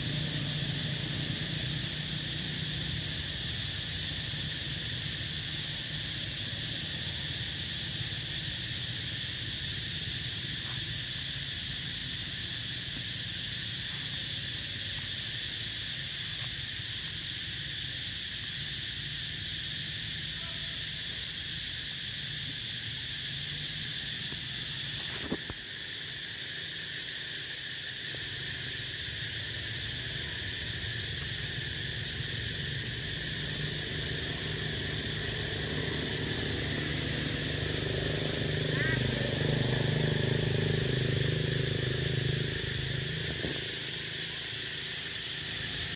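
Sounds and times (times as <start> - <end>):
shrill insect chorus: 0.0 - 45.9.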